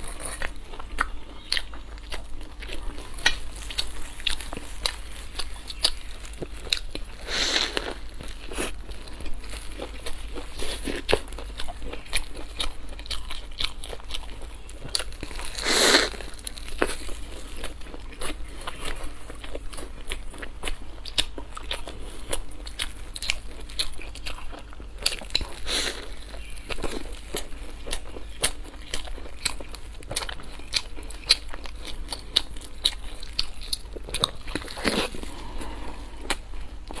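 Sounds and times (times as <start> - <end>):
rustling crunches: 0.0 - 20.4, 25.0 - 37.0
crunching crispy food: 0.0 - 37.0
wet chewing: 0.0 - 37.0.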